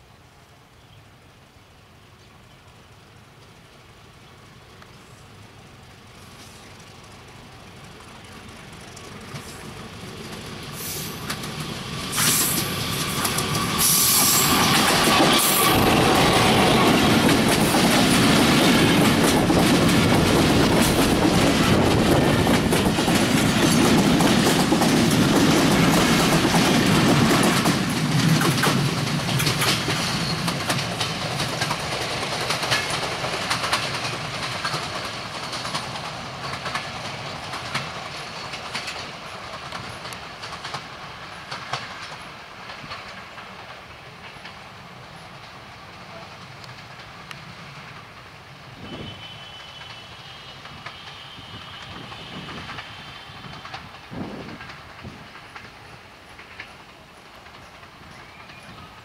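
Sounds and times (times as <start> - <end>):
diesel locomotive passing: 0.0 - 59.0
wheels clicking over rail joints: 2.7 - 59.0.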